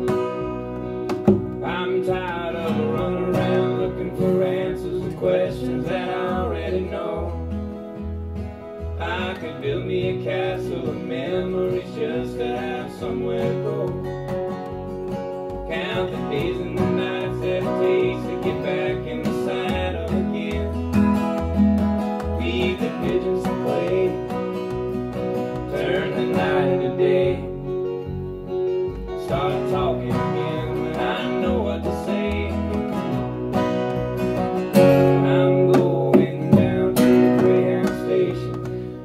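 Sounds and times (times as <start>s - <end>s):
acoustic guitar strumming: 0.0s - 39.0s
country band with deep bass: 0.0s - 39.0s.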